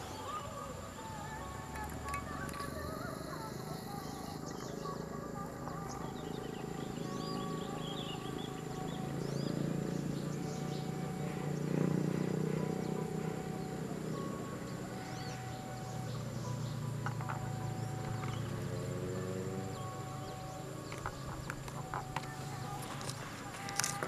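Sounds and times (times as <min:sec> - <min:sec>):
birds chirping: 0:00.0 - 0:24.0
insects calling: 0:00.0 - 0:24.0
low outdoor rumble: 0:00.0 - 0:24.0.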